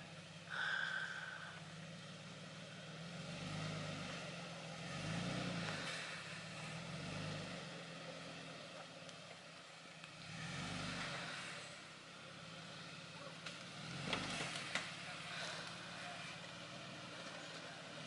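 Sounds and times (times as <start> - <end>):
truck engine running at low revs: 0.0 - 18.0.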